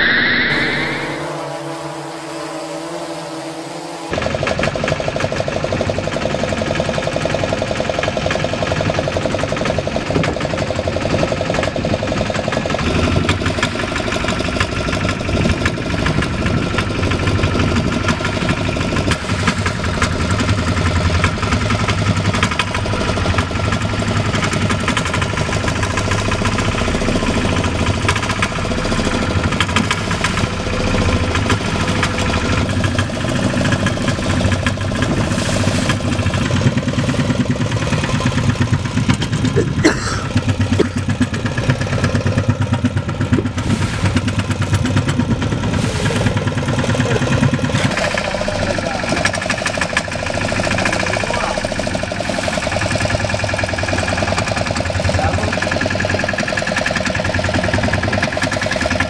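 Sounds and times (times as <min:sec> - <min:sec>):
boat engine running: 0:00.9 - 0:59.0.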